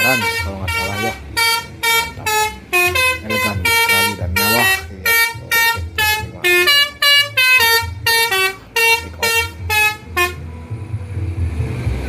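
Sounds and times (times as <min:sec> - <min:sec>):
multi-tone air horn tune: 0:00.0 - 0:10.5.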